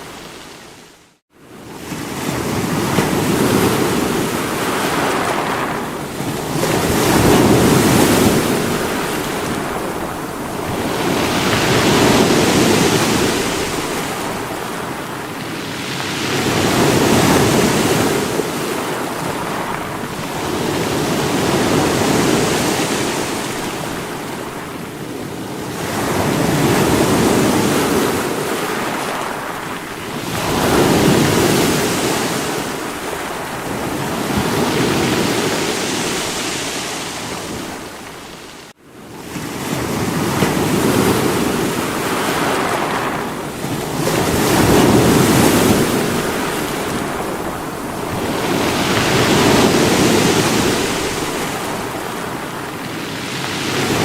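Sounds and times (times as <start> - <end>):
sea waves breaking on rocks: 1.7 - 54.0.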